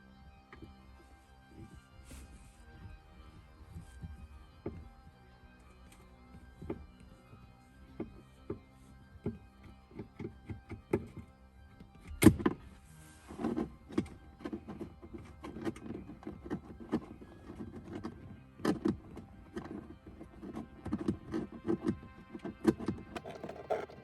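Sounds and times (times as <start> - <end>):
faint background music: 0.0 - 24.0.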